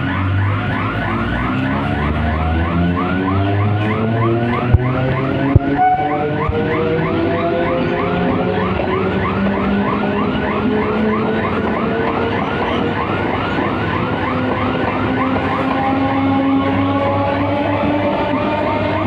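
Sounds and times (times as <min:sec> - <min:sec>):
train traction motors whining: 0:00.0 - 0:19.0.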